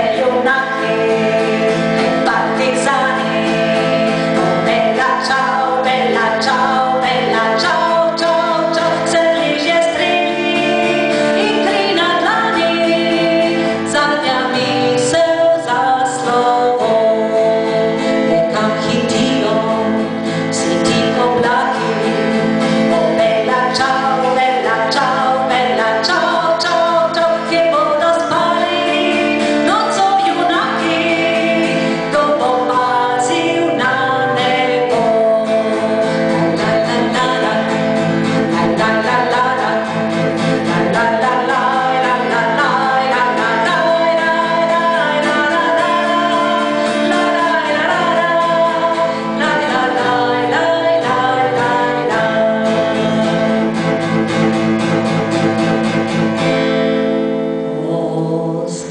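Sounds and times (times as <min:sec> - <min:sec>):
woman singing: 0:00.0 - 0:55.9, 0:57.6 - 0:58.9
acoustic guitar: 0:00.0 - 0:58.9.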